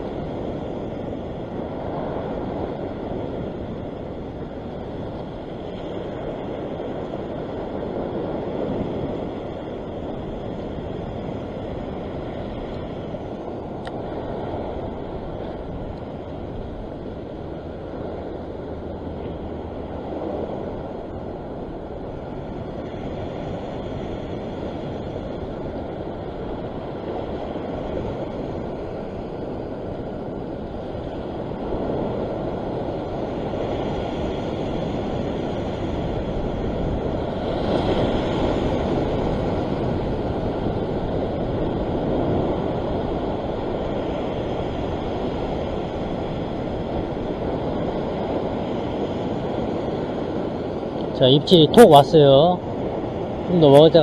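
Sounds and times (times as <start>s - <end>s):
surf washing against rocks: 0.0s - 54.0s
wind on microphone: 0.0s - 54.0s.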